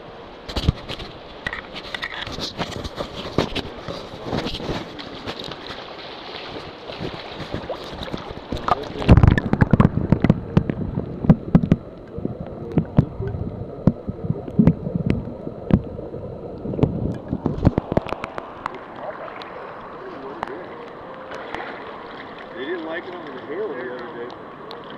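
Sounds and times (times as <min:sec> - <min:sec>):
muffled underwater sloshing: 0:00.4 - 0:24.9.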